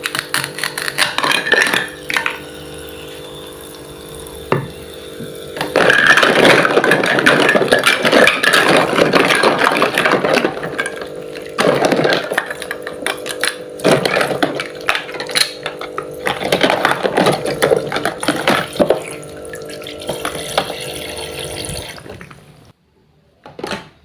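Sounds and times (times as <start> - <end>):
toy pump motor humming: 0.0 - 22.1.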